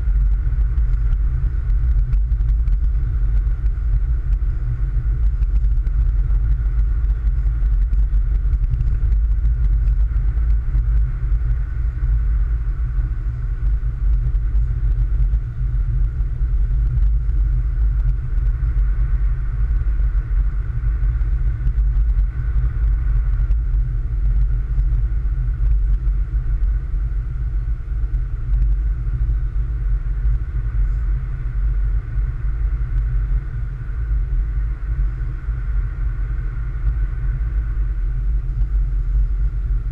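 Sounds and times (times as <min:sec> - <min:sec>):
car road and engine rumble: 0:00.0 - 0:39.9
faint high hum: 0:00.0 - 0:39.9.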